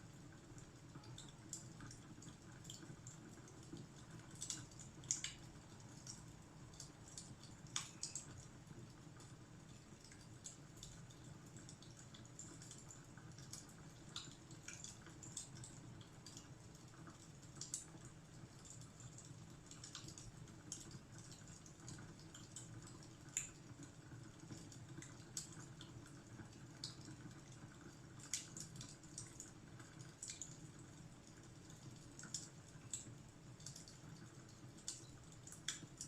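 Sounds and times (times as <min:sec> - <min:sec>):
wood fire crackling: 0:00.3 - 0:36.0.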